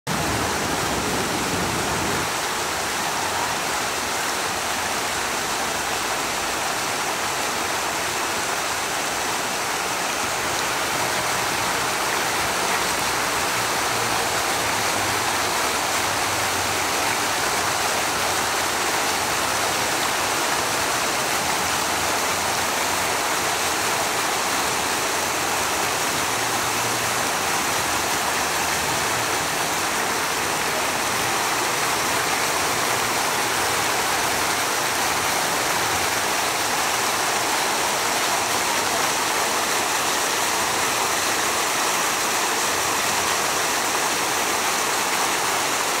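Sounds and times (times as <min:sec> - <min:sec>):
fountain water splashing: 0:00.1 - 0:46.0.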